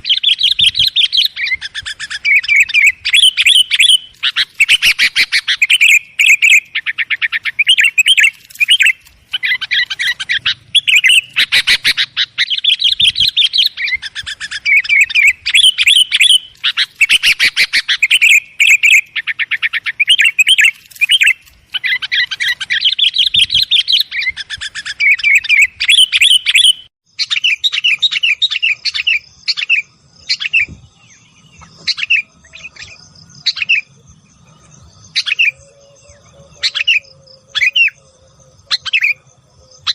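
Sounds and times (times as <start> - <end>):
birds chattering and trilling: 0.0 - 39.9.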